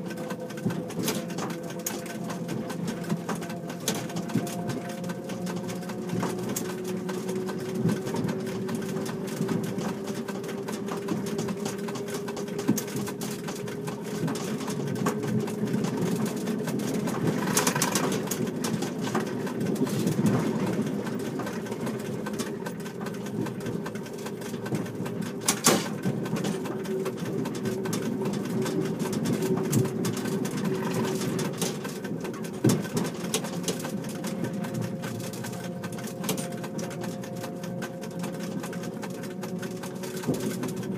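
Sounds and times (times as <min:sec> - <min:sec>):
clicks and rattles: 0:00.0 - 0:40.9
electric train motor whine: 0:00.0 - 0:40.9
train rumble: 0:00.0 - 0:40.9.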